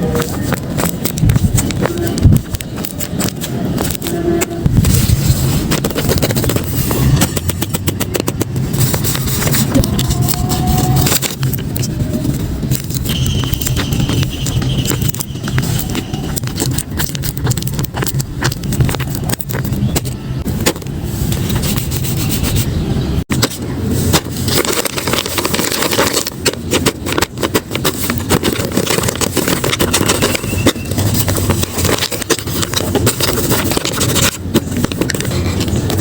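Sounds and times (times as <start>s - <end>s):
paper crinkling and rustling: 0.0s - 22.7s, 23.3s - 36.0s.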